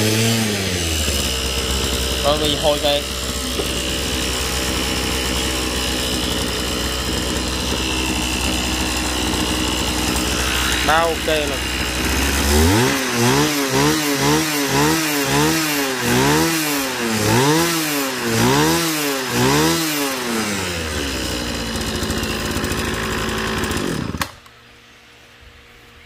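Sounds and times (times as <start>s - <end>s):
brush cutter engine revving: 0.0s - 24.6s.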